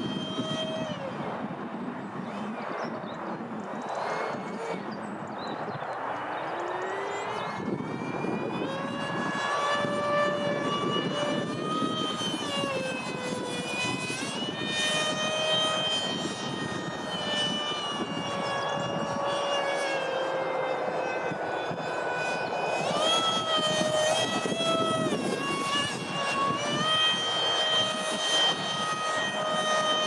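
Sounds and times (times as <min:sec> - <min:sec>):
model jet fan whining: 0:00.0 - 0:30.0
wind noise: 0:00.0 - 0:30.0.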